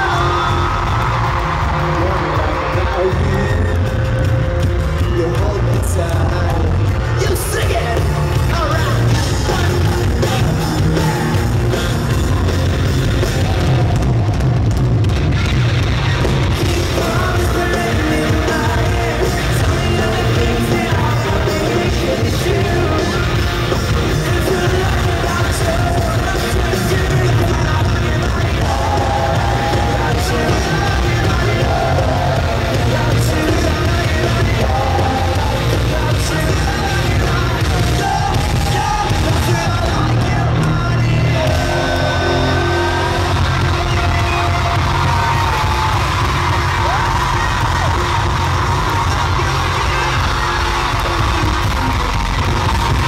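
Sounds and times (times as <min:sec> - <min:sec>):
lead singer: 0:00.0 - 0:14.6, 0:16.1 - 0:53.0
live rock band playing: 0:00.0 - 0:53.0.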